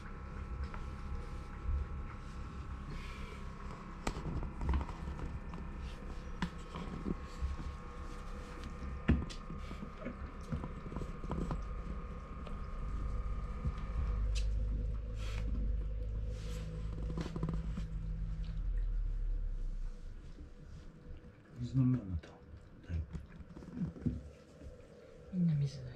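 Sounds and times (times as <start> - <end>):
faint steady hum: 0.0 - 25.9
kittens grooming clicks and rustles: 0.0 - 25.9.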